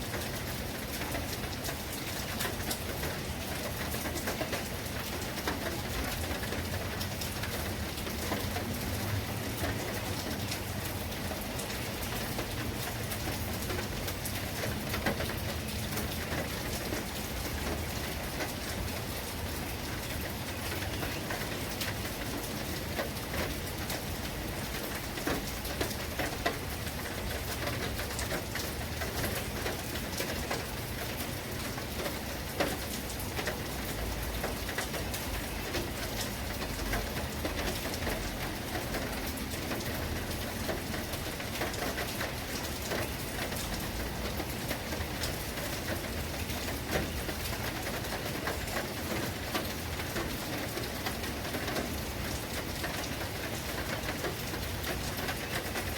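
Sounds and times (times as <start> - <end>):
rain falling: 0.0 - 55.9
raindrops ticking on surface: 0.0 - 55.9.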